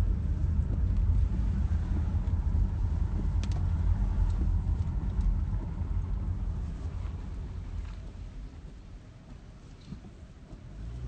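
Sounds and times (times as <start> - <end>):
car rumble on wet road: 0.0 - 11.0.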